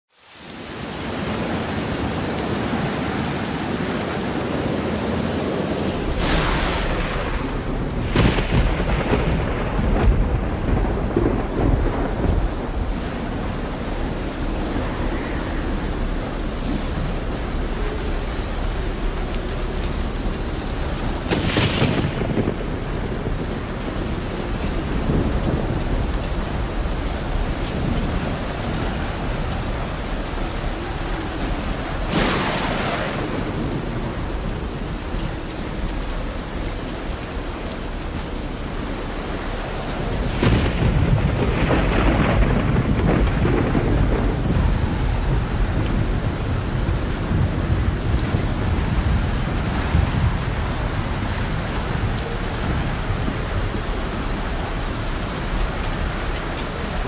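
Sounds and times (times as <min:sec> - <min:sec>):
steady rain: 0:00.0 - 0:57.0
rolling rumble of thunder: 0:00.6 - 0:57.0
sharp thunder claps: 0:05.0 - 0:18.0, 0:19.2 - 0:37.3, 0:40.0 - 0:57.0.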